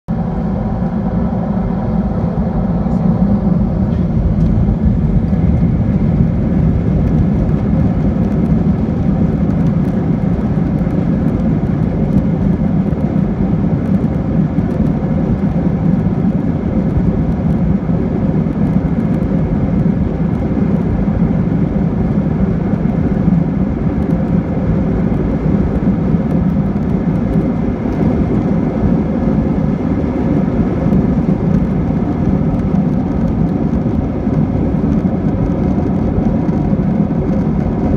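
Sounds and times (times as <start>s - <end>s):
jet engines rumbling in cabin: 0.1s - 37.9s.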